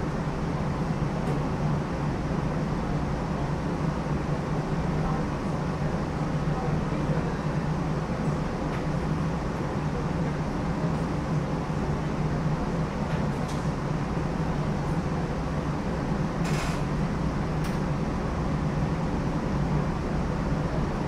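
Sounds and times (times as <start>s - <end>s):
streetcar motors rumbling: 0.0s - 21.0s.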